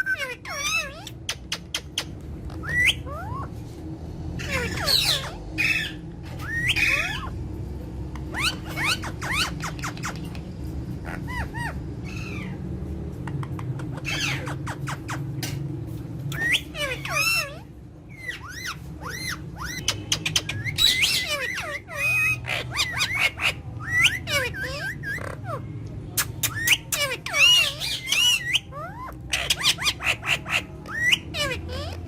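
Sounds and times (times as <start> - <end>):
parrots squawking and whistling: 0.0 - 32.0
steady low hum: 0.0 - 32.0.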